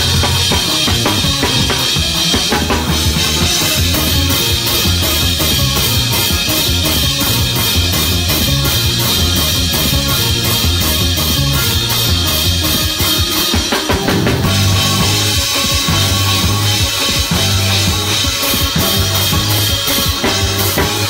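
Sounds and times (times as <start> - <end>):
low bass notes: 0.0 - 13.3, 13.9 - 21.0
drum kit fast beat: 0.0 - 21.0.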